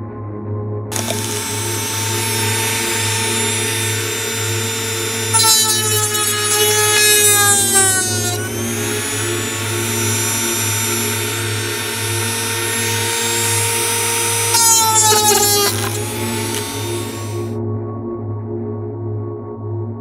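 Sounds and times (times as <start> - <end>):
rotary tool cutting wood: 0.9 - 17.5.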